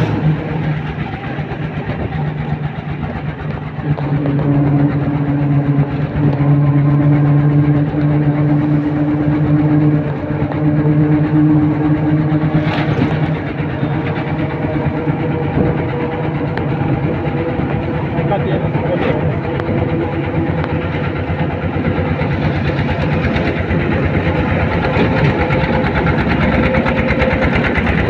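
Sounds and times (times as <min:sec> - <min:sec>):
road and wind noise: 0:00.0 - 0:28.0
vehicle engine hum: 0:00.0 - 0:28.0.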